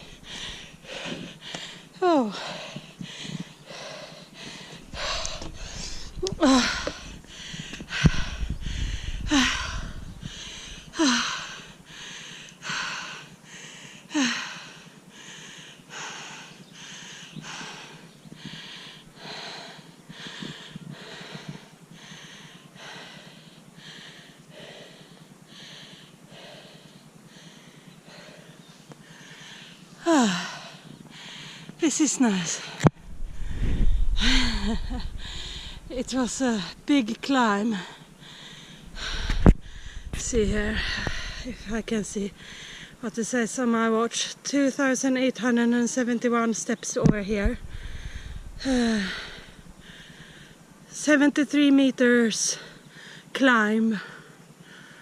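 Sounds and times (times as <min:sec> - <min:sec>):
person panting: 0:00.0 - 0:31.7, 0:32.6 - 0:36.8, 0:37.7 - 0:43.0, 0:47.6 - 0:50.6.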